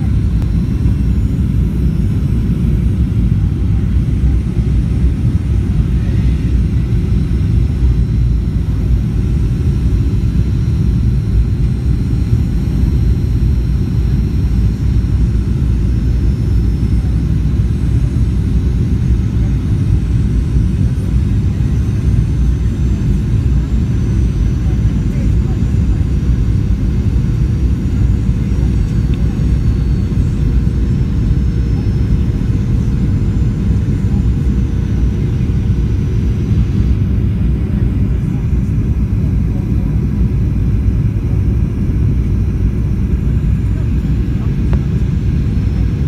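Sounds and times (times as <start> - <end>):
airliner engine and airflow rumble: 0.0 - 46.0.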